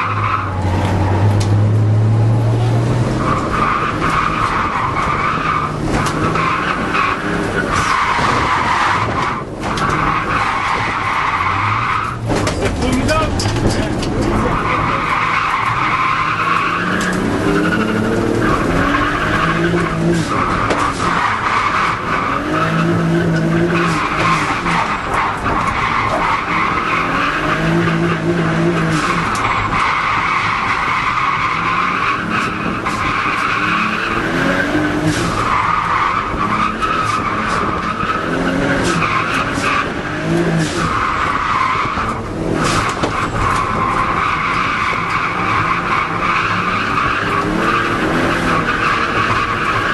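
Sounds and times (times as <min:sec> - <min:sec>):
car engine revving: 0:00.0 - 0:49.9
tyres squealing: 0:03.2 - 0:49.9.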